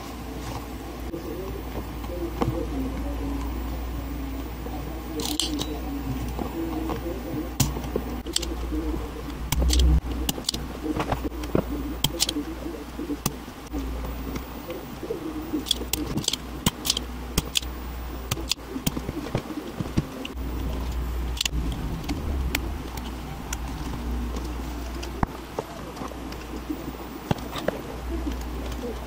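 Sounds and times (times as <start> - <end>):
steady low hum: 0.0 - 29.0
dove cooing: 0.3 - 29.0.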